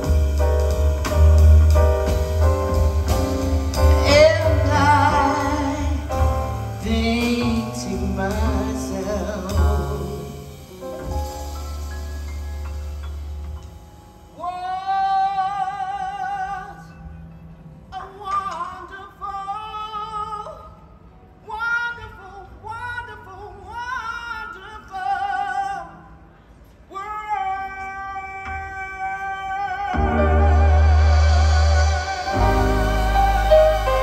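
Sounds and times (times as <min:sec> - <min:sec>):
woman singing jazz: 0:00.0 - 0:13.3, 0:14.2 - 0:17.0, 0:17.9 - 0:20.8, 0:21.4 - 0:26.1, 0:26.9 - 0:34.0.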